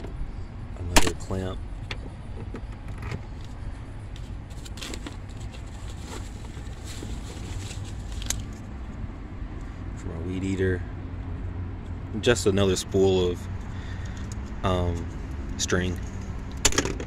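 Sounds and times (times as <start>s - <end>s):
steady low rumble: 0.0s - 16.8s.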